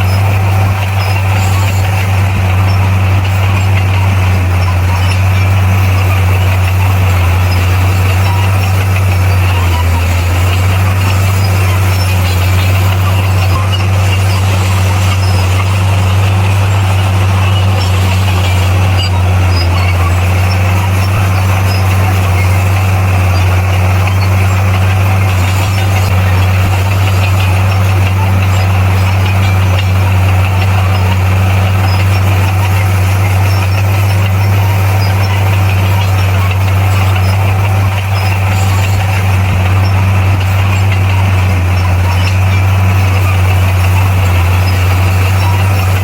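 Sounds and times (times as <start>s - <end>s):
bulldozer diesel engine droning: 0.0s - 46.0s.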